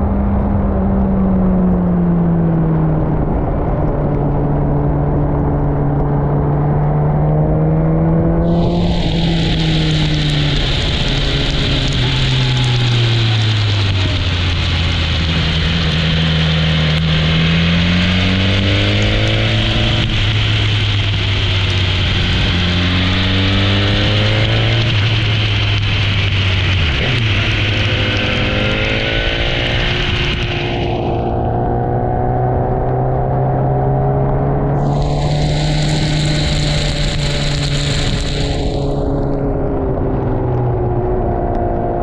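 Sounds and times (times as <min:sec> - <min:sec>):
rushing wind and road spray: 0:00.0 - 0:42.0
motorcycle engine revving: 0:05.7 - 0:42.0.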